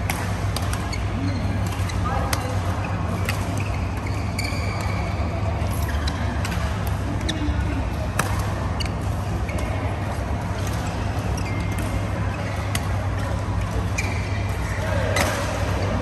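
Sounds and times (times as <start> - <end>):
low hall hum: 0.0 - 16.0.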